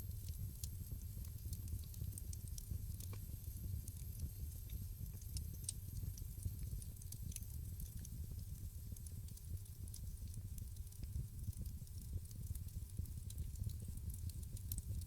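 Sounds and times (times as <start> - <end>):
wood fire burning: 0.2 - 15.0.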